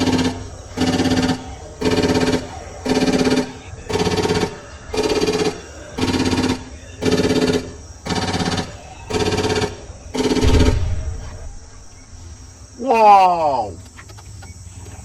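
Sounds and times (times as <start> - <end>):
toy blaster rattling bursts: 0.0 - 12.5.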